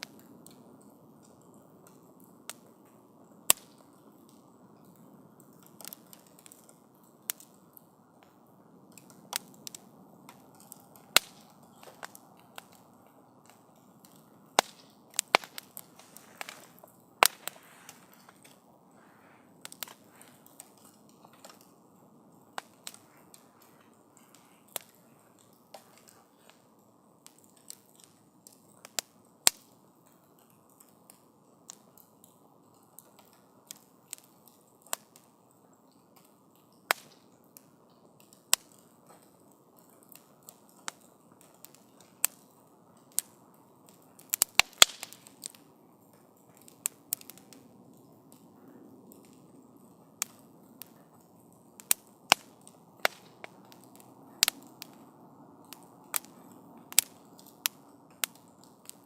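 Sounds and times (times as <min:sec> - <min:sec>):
fire hissing: 0:00.0 - 0:29.7, 0:38.3 - 0:59.0
campfire crackling and popping: 0:00.0 - 0:59.0.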